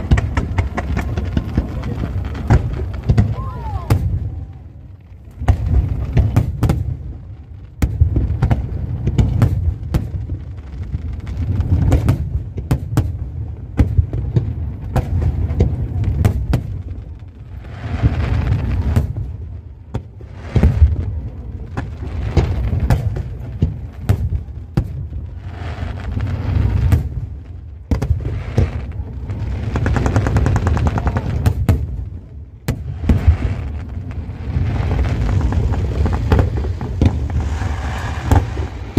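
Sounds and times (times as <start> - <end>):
deep fireworks booms: 0.0 - 38.9
fireworks bangs and crackles: 0.0 - 38.9.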